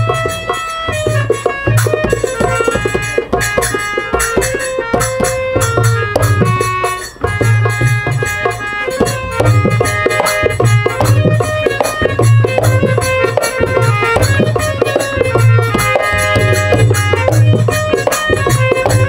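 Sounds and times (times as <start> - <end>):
hand drums: 0.0 - 19.0
melody line: 0.0 - 19.0.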